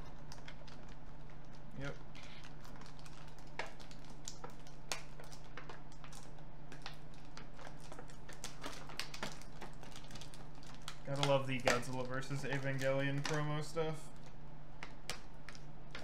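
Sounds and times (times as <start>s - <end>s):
plastic packaging crinkling: 0.0s - 16.0s
steady low hum: 0.0s - 16.0s.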